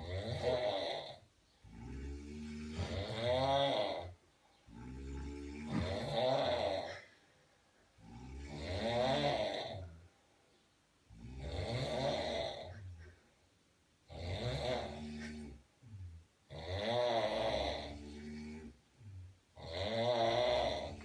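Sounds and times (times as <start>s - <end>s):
men snoring loudly: 0.0s - 7.1s, 8.0s - 9.9s, 11.1s - 12.8s, 14.1s - 21.0s.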